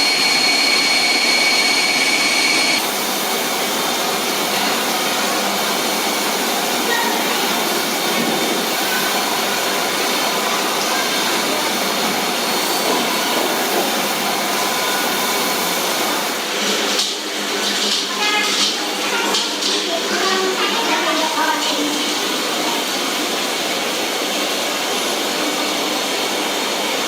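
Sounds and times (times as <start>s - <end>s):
factory machinery running: 0.0s - 27.0s.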